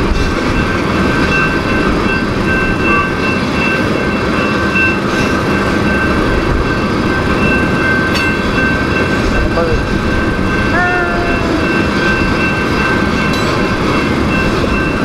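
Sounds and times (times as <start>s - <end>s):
freight train rumbling on rails: 0.0s - 15.0s
high ringing tone: 0.6s - 15.0s.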